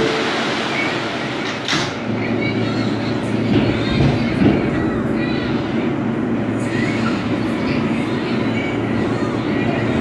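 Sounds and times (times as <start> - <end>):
subway car motor hum: 0.0 - 10.0
wheels rumbling on rails: 0.0 - 10.0.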